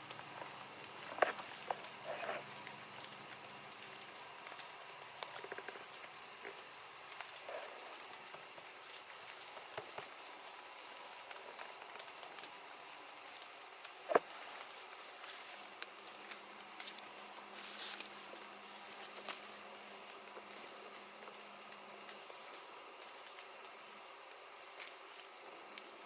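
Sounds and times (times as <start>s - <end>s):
insects droning: 0.0s - 26.0s
small clicks and rustles: 0.0s - 26.0s.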